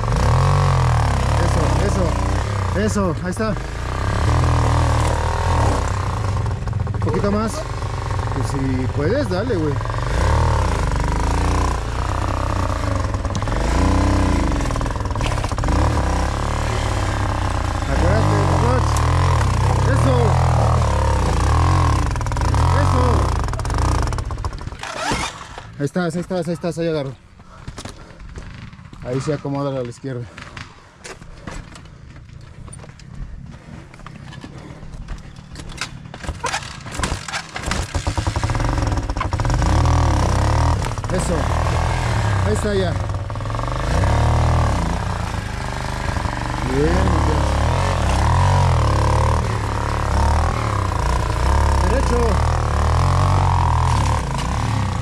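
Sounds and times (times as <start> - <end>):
dirt bike engine revving: 0.0 - 26.2, 36.4 - 55.0.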